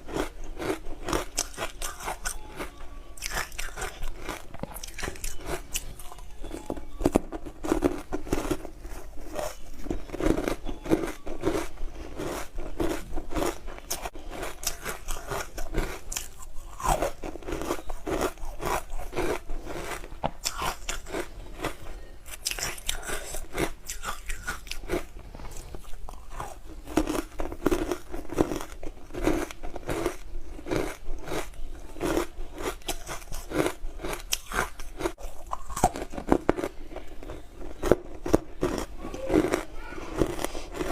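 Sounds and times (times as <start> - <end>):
ice being bitten and chewed: 0.0 - 40.9.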